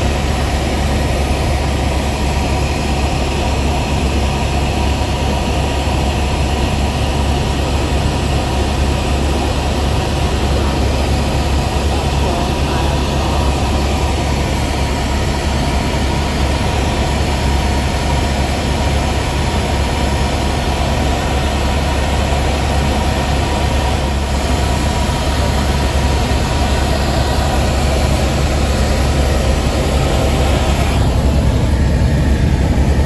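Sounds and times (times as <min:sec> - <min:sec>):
helicopter engine and rotor noise: 0:00.0 - 0:33.0.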